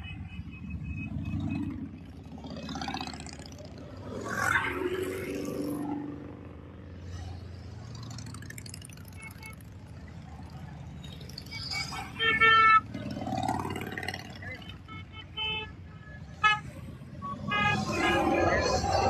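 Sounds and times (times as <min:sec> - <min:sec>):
passing vehicle engines rumbling: 0:00.0 - 0:19.0.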